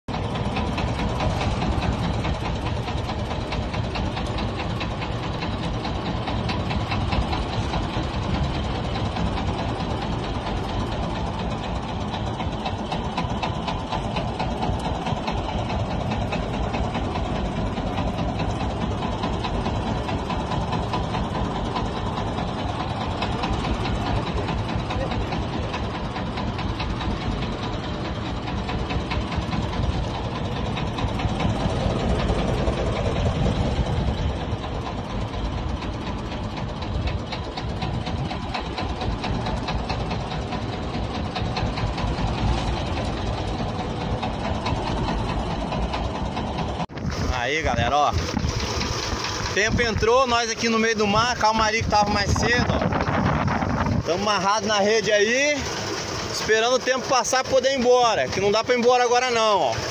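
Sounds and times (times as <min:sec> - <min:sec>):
boat engine chugging: 0:00.1 - 0:59.9.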